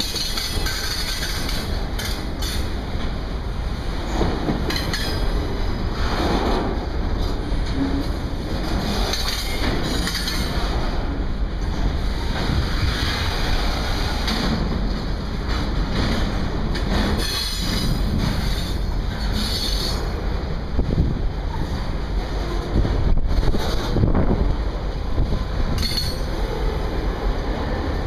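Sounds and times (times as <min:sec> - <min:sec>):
freight train wheels rumbling on rail: 0:00.0 - 0:28.0.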